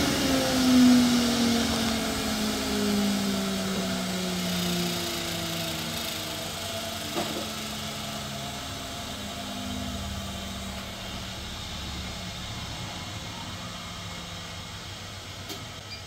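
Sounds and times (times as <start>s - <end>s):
workshop machinery hum: 0.0s - 16.0s.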